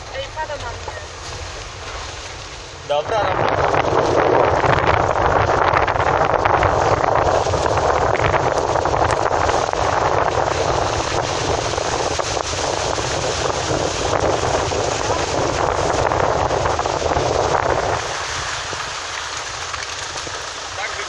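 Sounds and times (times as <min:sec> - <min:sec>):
tyre noise on wet road: 0:00.0 - 0:21.0.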